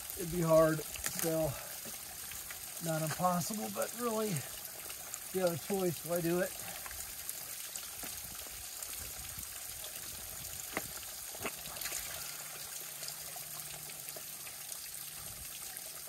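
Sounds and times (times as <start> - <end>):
water trickling into plastic bag: 0.0 - 16.0.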